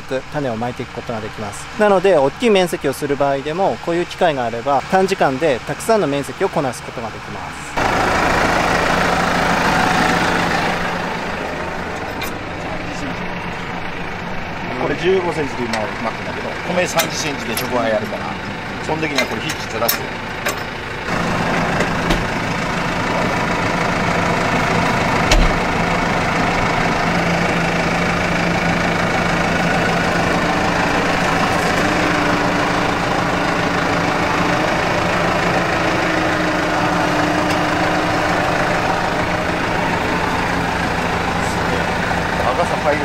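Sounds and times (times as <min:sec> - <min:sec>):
tractor diesel engine idling: 0:00.0 - 0:43.0.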